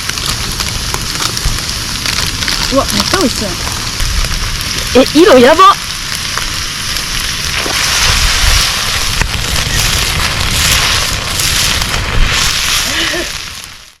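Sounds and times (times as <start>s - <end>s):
rice sizzling in a pan: 0.0s - 14.0s
wind rumbling on microphone: 0.0s - 14.0s.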